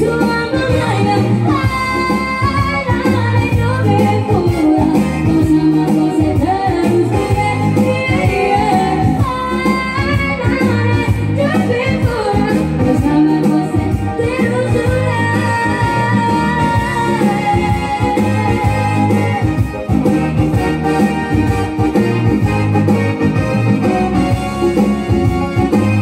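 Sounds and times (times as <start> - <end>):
electronic keyboard music: 0.0 - 26.0.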